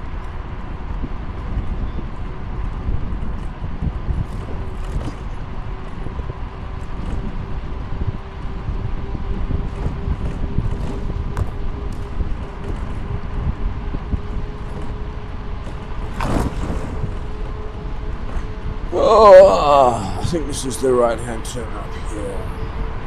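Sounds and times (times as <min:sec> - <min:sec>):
wind buffeting microphone: 0:00.0 - 0:19.4
faint constant hum: 0:00.0 - 0:23.0
road noise: 0:00.0 - 0:23.0.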